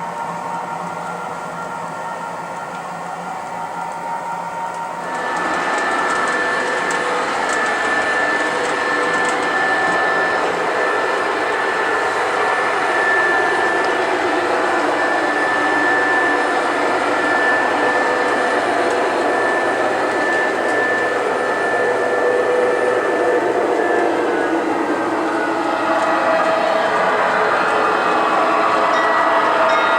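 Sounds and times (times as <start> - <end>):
model train motor whirring: 4.8 - 29.8.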